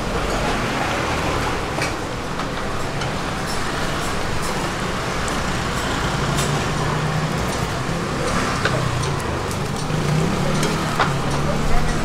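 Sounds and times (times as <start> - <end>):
engine hum: 0.0 - 12.0
road traffic rumble: 0.0 - 12.0.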